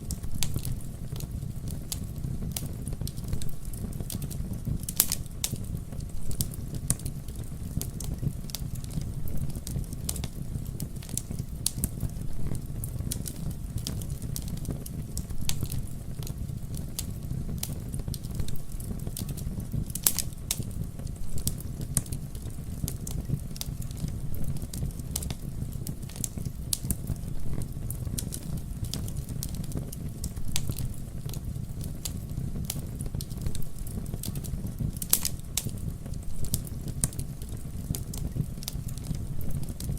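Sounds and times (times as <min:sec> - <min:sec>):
burning wood crackling and popping: 0:00.0 - 0:39.9
campfire burning: 0:00.0 - 0:39.9.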